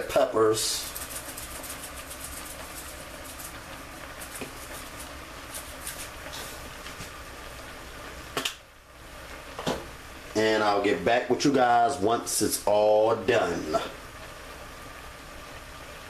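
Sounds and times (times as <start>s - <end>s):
pan of cabbage hissing: 0.0s - 16.0s.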